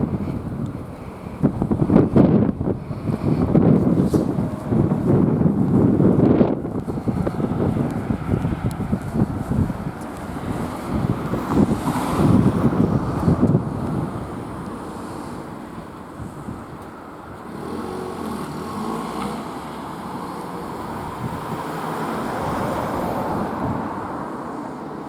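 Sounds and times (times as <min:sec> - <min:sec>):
nearby engine hum: 0:00.0 - 0:25.0
road vehicles driving past: 0:00.0 - 0:25.0.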